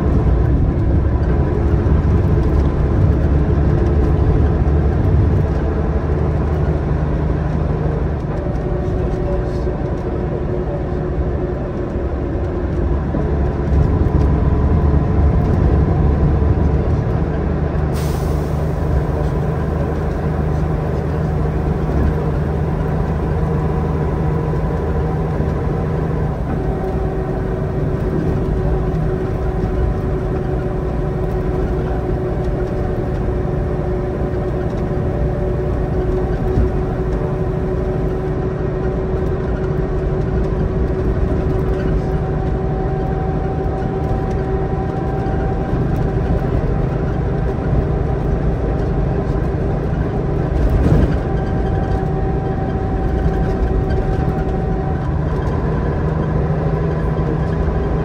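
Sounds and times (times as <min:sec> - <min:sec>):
bus engine running: 0:00.0 - 0:58.0
road and body noise: 0:00.0 - 0:58.0.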